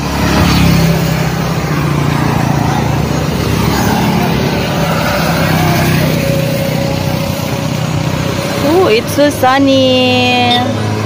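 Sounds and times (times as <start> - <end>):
small motorcycle engine passing: 0.0 - 11.0.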